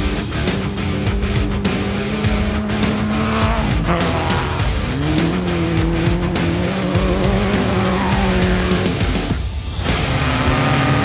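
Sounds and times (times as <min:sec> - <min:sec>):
background music: 0:00.0 - 0:11.0
buggy engine running: 0:00.0 - 0:11.0.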